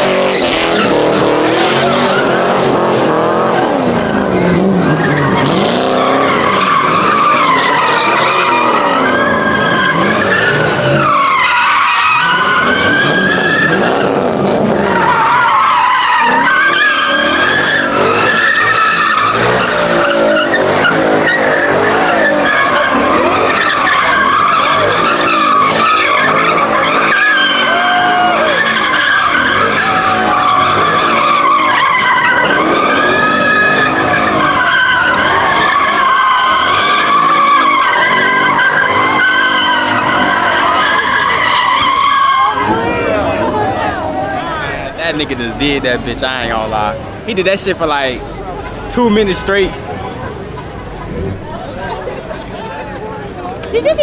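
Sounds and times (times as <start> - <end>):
car engine revving: 0.0 - 52.6
tyres screeching: 0.0 - 54.0.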